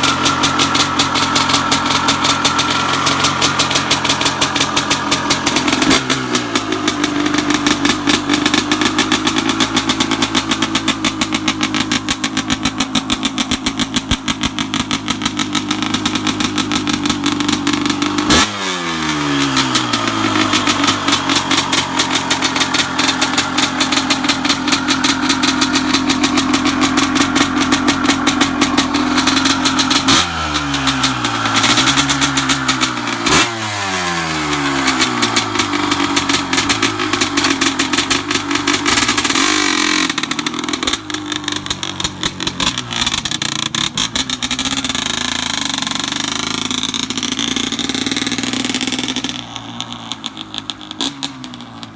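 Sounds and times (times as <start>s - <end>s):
dirt bike engine revving high: 0.0s - 51.8s.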